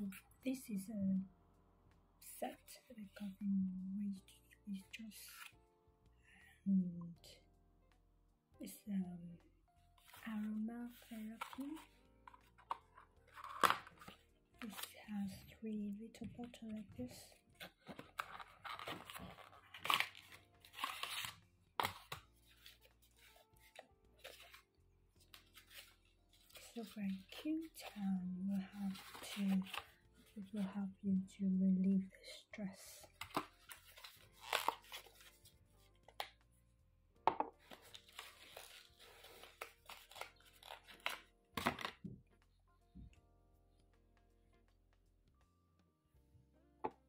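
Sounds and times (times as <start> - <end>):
faint background music: 0.0 - 47.0.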